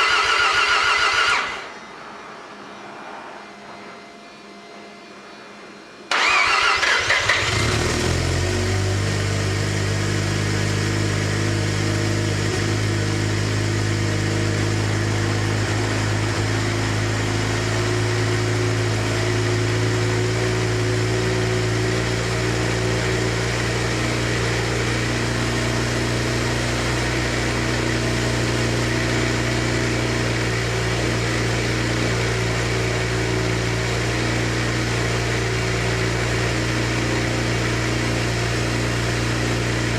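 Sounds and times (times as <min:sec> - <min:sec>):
rotary engine starting and idling: 0:00.0 - 0:01.8, 0:06.1 - 0:39.9.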